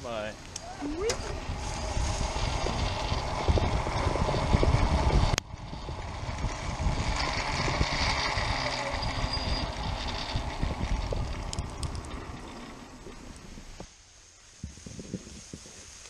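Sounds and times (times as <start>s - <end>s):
cable car rumbling: 0.5s - 13.9s.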